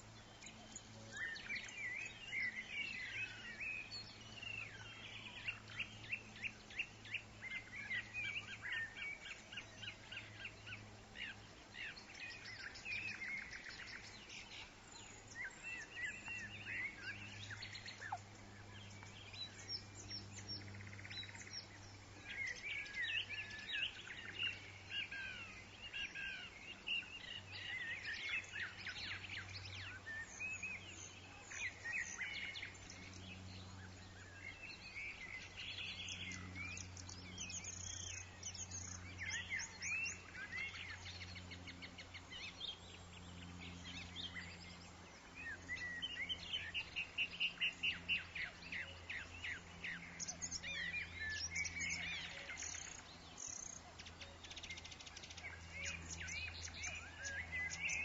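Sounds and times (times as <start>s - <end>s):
woodland birds chirping: 0.0s - 58.0s.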